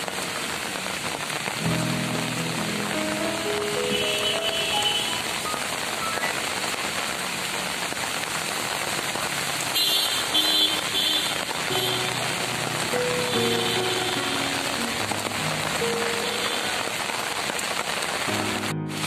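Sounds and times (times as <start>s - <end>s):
heavy rain on a wet street: 0.0s - 19.0s.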